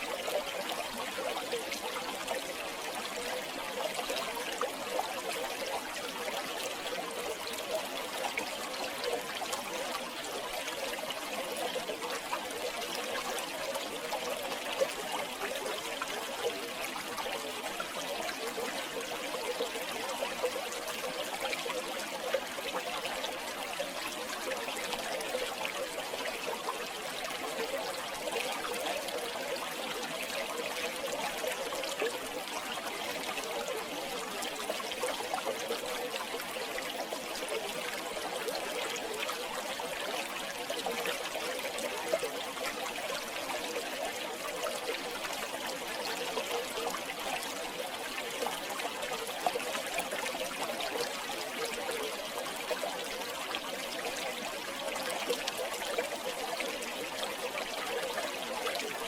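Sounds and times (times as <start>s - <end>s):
river water flowing and bubbling: 0.0s - 59.0s.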